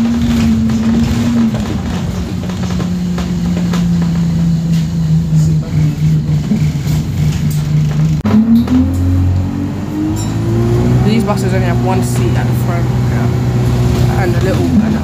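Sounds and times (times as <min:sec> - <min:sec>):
bus body rattling: 0:00.0 - 0:15.0
bus diesel engine: 0:00.0 - 0:15.0.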